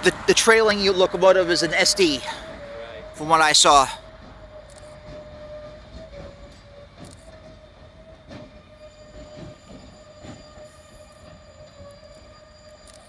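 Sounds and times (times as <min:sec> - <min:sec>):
train wheels knocking: 0:00.0 - 0:12.2
train wheel squeal: 0:00.0 - 0:13.0.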